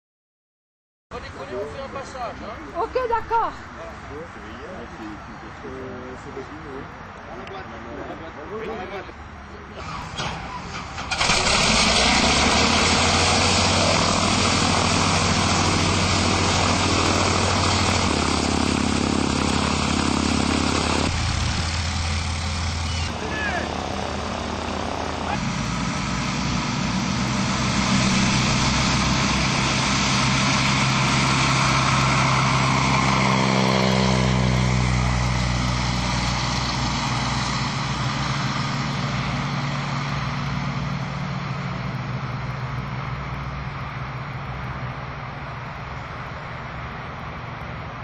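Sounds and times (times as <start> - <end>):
propeller aircraft engine: 8.5 - 48.0.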